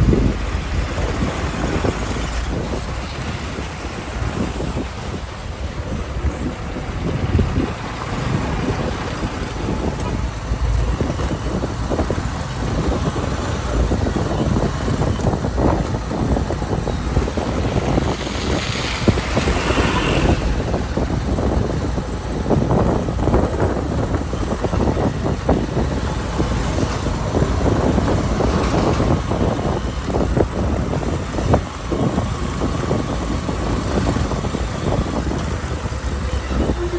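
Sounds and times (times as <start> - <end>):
vehicle engine and road rumble: 0.0 - 36.9.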